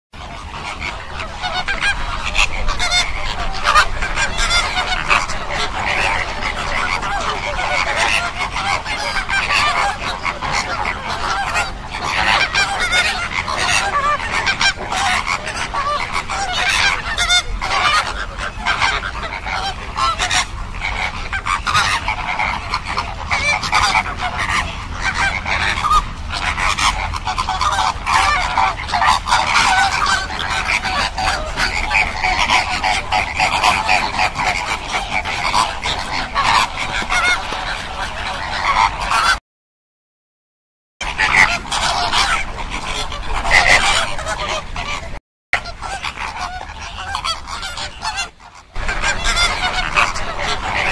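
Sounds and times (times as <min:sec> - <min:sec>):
flamingos honking: 0:00.2 - 0:39.4, 0:41.0 - 0:50.9.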